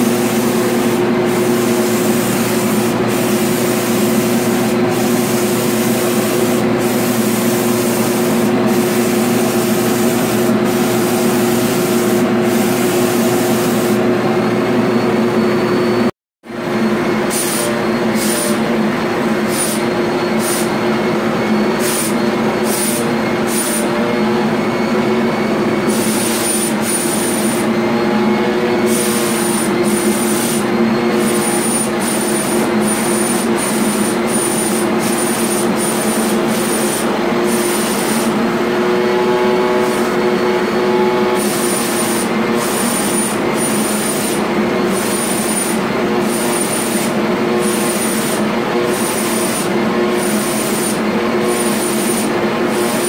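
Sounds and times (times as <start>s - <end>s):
spray gun hissing: 0.0s - 14.1s, 17.3s - 18.6s, 19.4s - 20.8s, 21.8s - 23.9s, 25.9s - 27.7s, 28.7s - 38.4s, 39.8s - 40.3s, 41.2s - 53.0s
air turbine drone: 0.0s - 53.0s.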